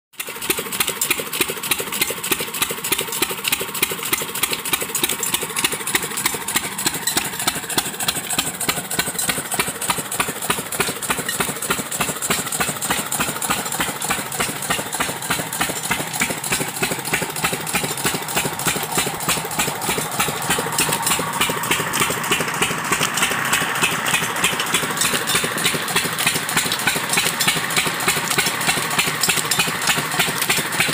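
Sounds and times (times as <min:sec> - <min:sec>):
diesel engine running: 0:00.2 - 0:30.9.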